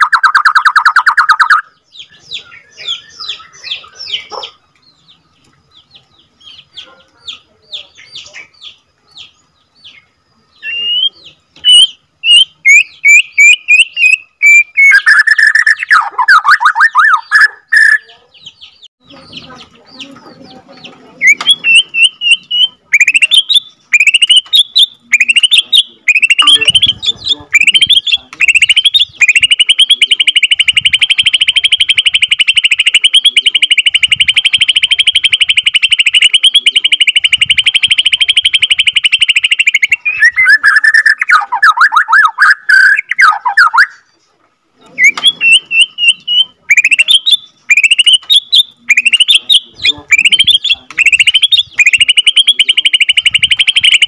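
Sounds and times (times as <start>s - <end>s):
bird singing whistles and trills: 0.0s - 4.6s, 8.0s - 19.2s, 21.2s - 44.1s, 44.9s - 54.0s.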